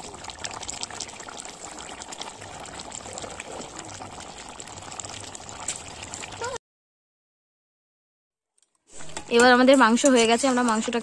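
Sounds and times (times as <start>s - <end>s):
curry bubbling and popping: 0.0s - 6.6s, 8.6s - 11.0s.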